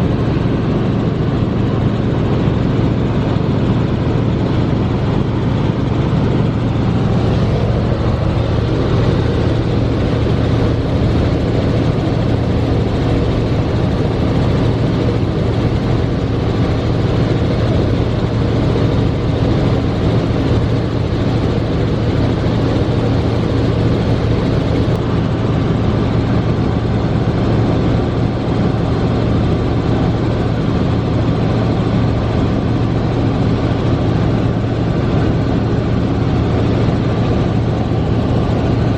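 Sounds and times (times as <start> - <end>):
helicopter engine and rotor noise: 0.0 - 38.9
low hum: 0.0 - 38.9.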